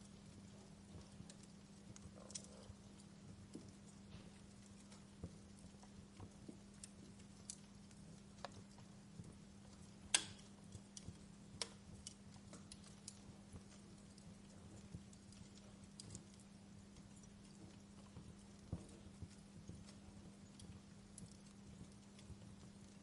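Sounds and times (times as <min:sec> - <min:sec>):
faint low hum: 0:00.0 - 0:23.0
wood fire crackling and popping: 0:00.0 - 0:23.0.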